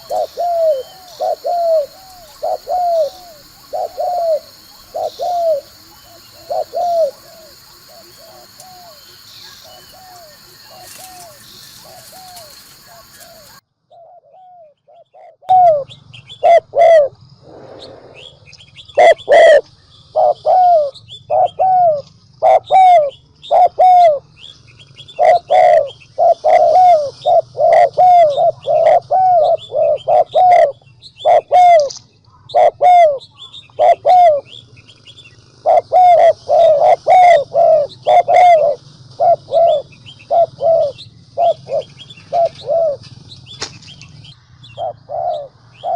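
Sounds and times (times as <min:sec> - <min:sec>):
dove cooing: 0:00.0 - 0:18.4, 0:19.0 - 0:24.3, 0:25.1 - 0:34.6, 0:35.6 - 0:45.9.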